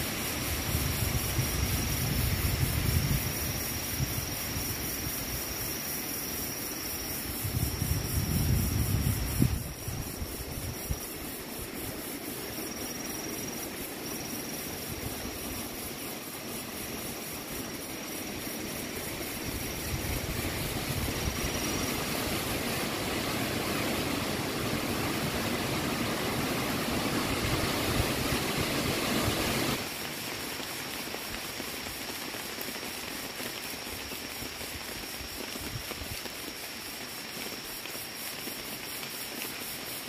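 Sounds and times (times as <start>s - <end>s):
rain: 0.0s - 40.0s
wind: 0.0s - 40.0s.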